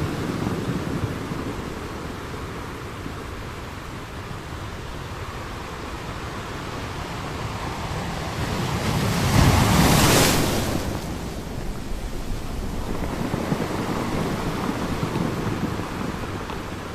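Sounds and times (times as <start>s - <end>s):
sea waves breaking on beach: 0.0s - 16.9s.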